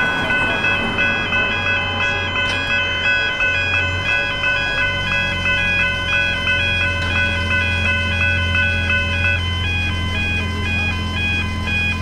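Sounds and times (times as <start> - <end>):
level crossing bells chiming: 0.0 - 12.0.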